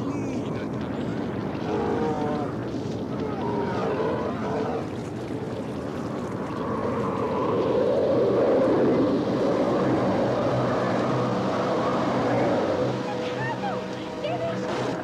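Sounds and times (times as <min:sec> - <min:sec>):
cartoon whirlpool water rushing: 0:00.0 - 0:15.0.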